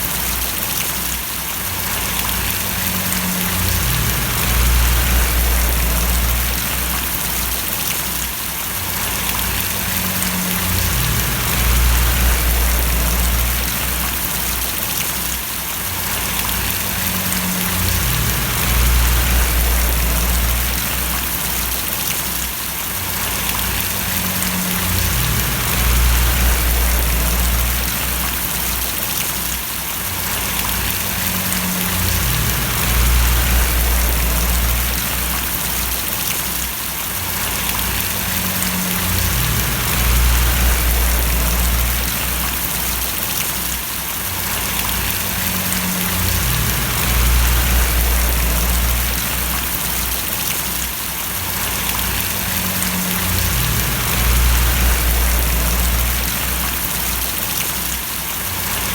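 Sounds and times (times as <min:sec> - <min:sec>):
rain splashing: 0:00.0 - 0:58.9
low rumble: 0:01.9 - 0:07.9, 0:08.9 - 0:14.7, 0:16.1 - 0:22.1, 0:23.0 - 0:29.0, 0:30.3 - 0:36.3, 0:37.3 - 0:43.2, 0:44.5 - 0:50.5, 0:51.5 - 0:57.4.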